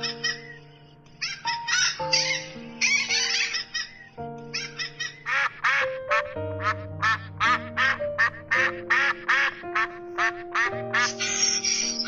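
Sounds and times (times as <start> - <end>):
background music with held notes: 0.0 - 12.0
ducks quacking: 0.0 - 12.0.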